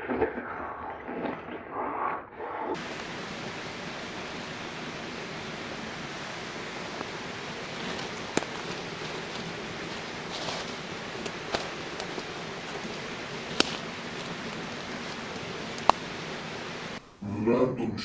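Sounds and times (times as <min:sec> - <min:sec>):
steady background hiss: 0:02.8 - 0:18.0.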